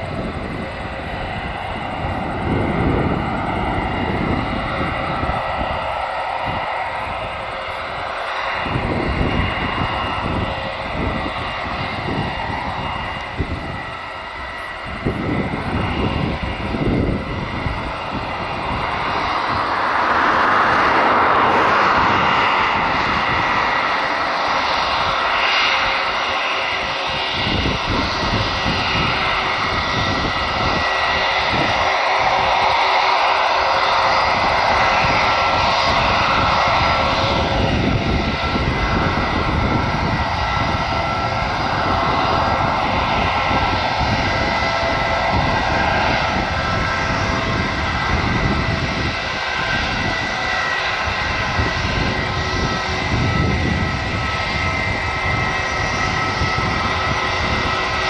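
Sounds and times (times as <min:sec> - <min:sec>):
airliner engines roaring: 0:00.0 - 0:58.0
wind buffeting microphone: 0:00.0 - 0:58.0.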